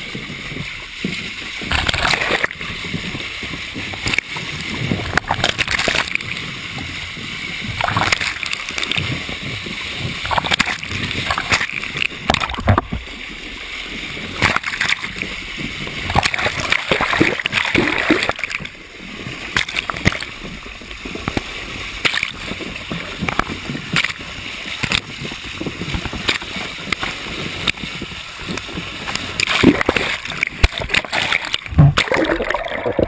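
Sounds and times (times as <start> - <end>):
turbulent water splashing: 0.0 - 33.0.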